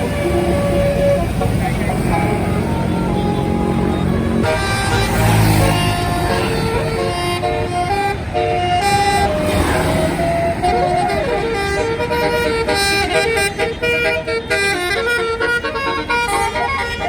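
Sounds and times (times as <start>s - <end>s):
multi-tone bus horn melody: 0.0s - 17.0s
passing traffic: 0.0s - 17.0s.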